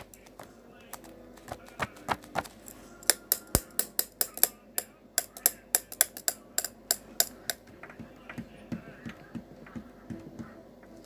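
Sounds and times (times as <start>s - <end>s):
sharp taps and clicks: 0.0s - 11.0s.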